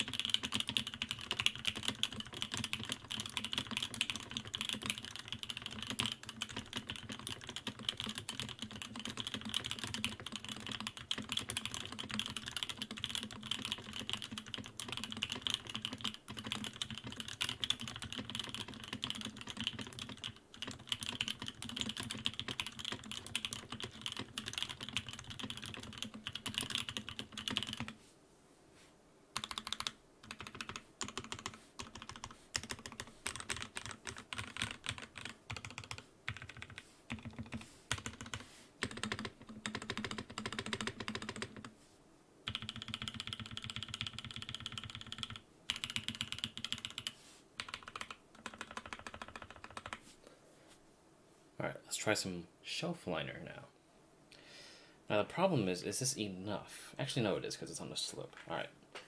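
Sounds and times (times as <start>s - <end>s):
mechanical keyboard typing: 0.0s - 28.0s, 29.4s - 41.7s, 42.5s - 50.0s.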